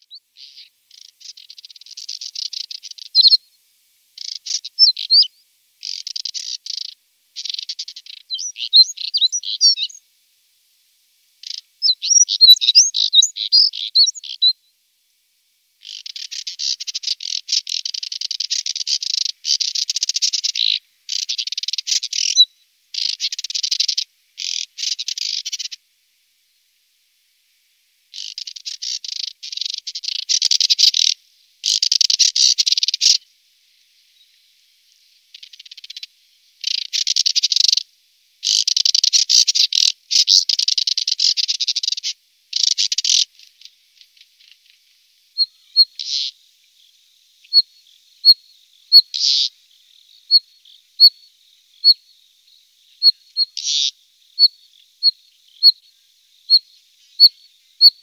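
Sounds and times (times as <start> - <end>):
bird singing twittering phrases: 0.0 - 3.6, 4.2 - 10.0, 11.4 - 14.7, 15.8 - 25.8, 28.2 - 33.2, 35.3 - 37.8, 38.4 - 58.0.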